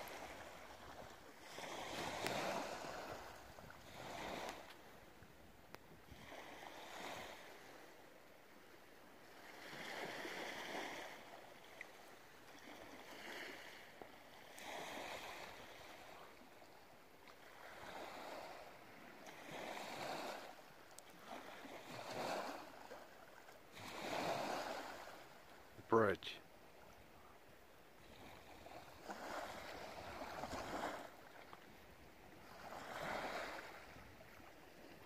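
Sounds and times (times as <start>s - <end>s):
small waves washing ashore: 0.0s - 35.0s.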